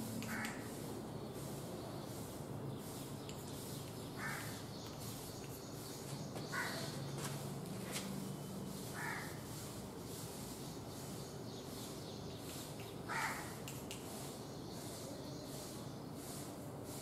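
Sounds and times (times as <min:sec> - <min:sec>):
bird calling: 0:00.2 - 0:01.6, 0:02.8 - 0:09.8, 0:11.2 - 0:16.4.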